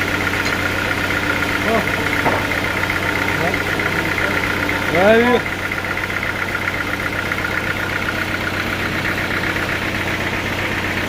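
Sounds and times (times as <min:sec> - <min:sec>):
sawmill engine idling: 0:00.0 - 0:11.0.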